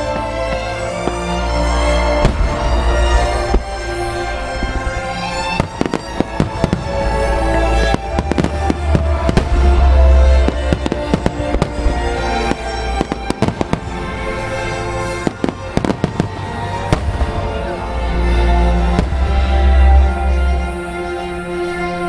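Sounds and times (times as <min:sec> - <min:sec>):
fireworks bursting with sharp bangs: 0:00.0 - 0:17.8, 0:18.9 - 0:19.6
music: 0:00.0 - 0:22.0.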